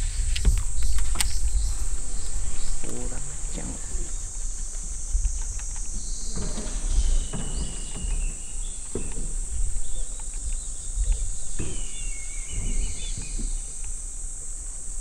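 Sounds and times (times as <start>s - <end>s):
insects droning: 0.0s - 15.0s
bird chirps: 0.5s - 14.2s.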